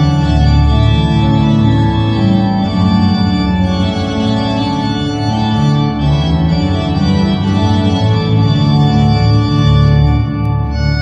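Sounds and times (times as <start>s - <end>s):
pipe organ chords: 0.0s - 11.0s.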